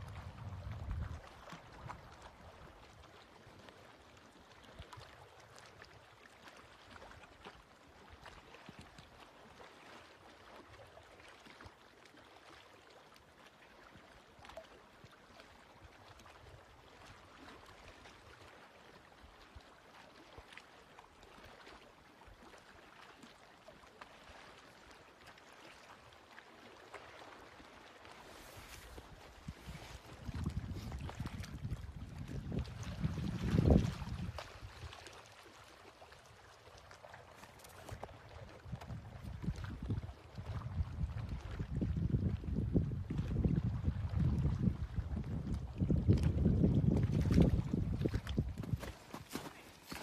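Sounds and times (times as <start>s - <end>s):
small waves lapping: 0.0s - 50.0s.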